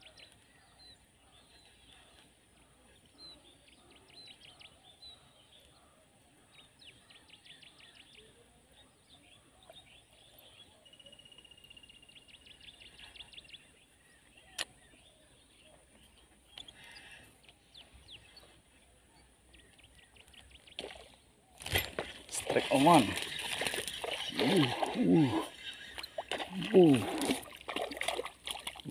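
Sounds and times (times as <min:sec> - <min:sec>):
faint birdsong chirps and trills: 0:00.0 - 0:28.9.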